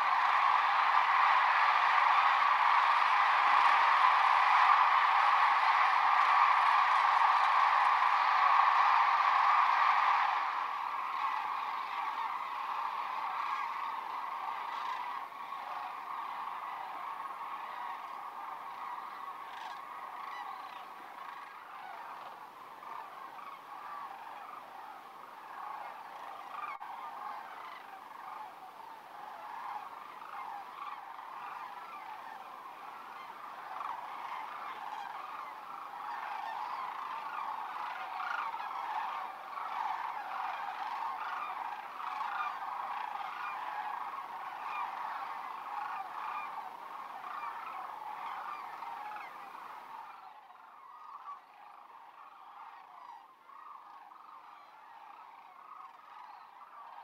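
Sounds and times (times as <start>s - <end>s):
cranes calling: 0.0s - 57.0s.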